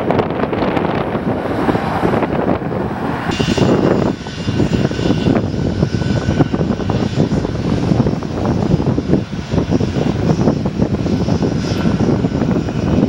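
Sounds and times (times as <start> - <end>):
high whine of jet engines taxiing: 0.0 - 13.0
jet engines on landing roll: 0.0 - 13.0
wind buffeting microphone: 0.0 - 13.0.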